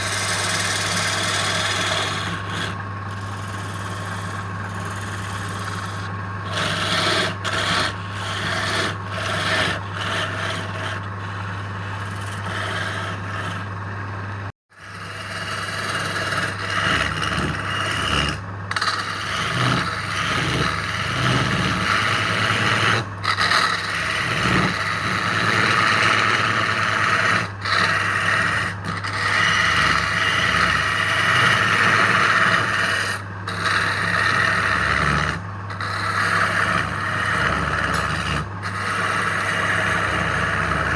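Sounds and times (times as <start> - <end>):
rasping scrape on spinning wood: 0.0 - 40.9
wood lathe motor humming: 0.0 - 40.9.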